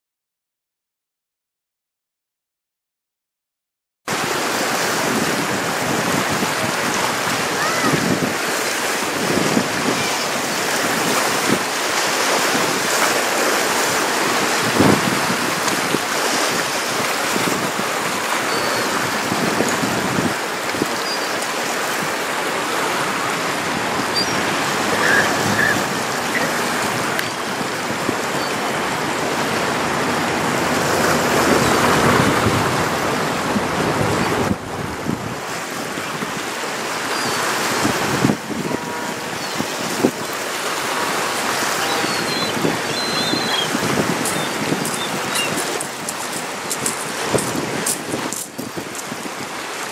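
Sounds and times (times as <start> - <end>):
choppy lake water washing: 4.1 - 49.9
wind on microphone: 4.1 - 49.9.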